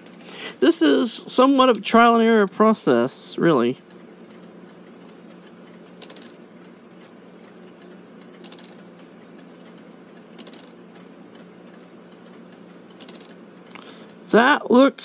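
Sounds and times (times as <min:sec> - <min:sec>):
clock works clicking: 0:00.0 - 0:15.0
faint steady hum: 0:00.0 - 0:15.0.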